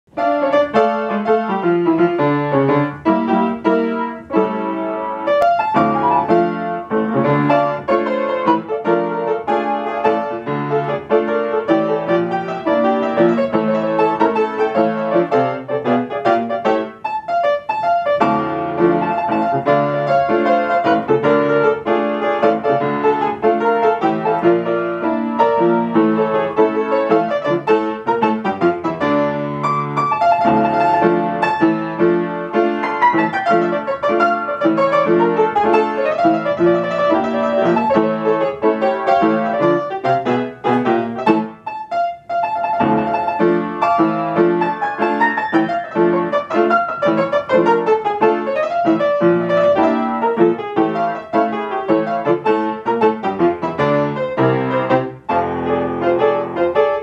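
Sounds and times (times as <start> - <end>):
upright piano playing: 0.1 - 57.0.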